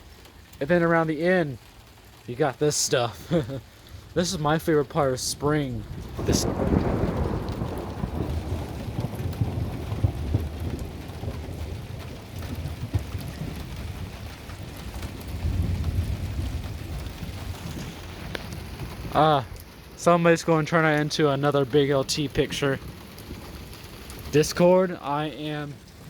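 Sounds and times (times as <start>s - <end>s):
heavy rain falling: 0.0s - 26.0s
thunder rumbling: 0.7s - 26.0s.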